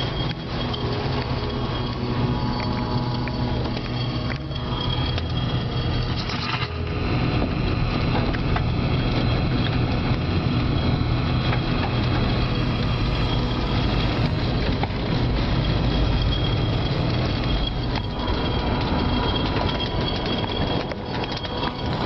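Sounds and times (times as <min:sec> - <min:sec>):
tornado wind deep rumble: 0:00.0 - 0:22.0
wind noise on microphone: 0:00.0 - 0:22.0.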